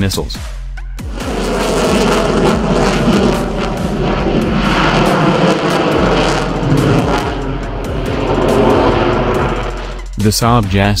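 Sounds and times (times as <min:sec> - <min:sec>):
fighter jet flying past: 0:01.0 - 0:10.2.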